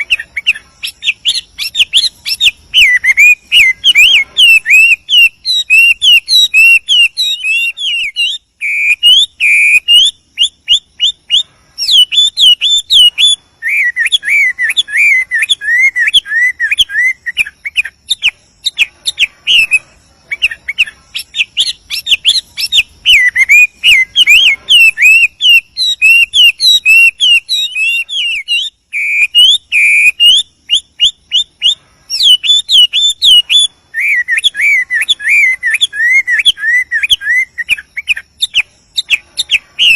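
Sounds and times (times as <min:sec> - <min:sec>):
bird singing whistles: 0:00.0 - 0:39.9.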